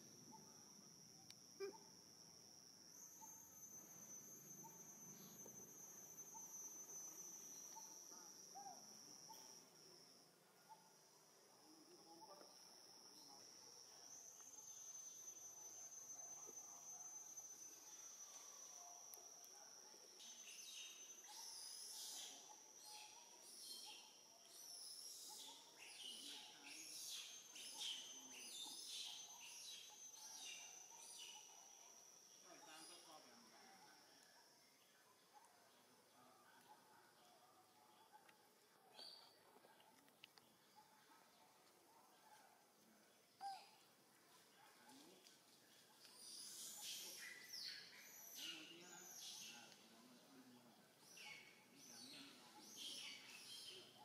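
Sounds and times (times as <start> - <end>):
faint chirps: 0.0 - 54.0
insects droning: 0.0 - 54.0.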